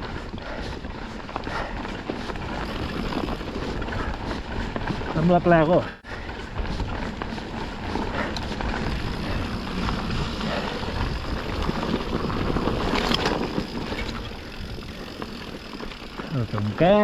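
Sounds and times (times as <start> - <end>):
bike rattling and knocking: 0.0 - 17.0
tyres rolling on dirt: 0.0 - 17.0.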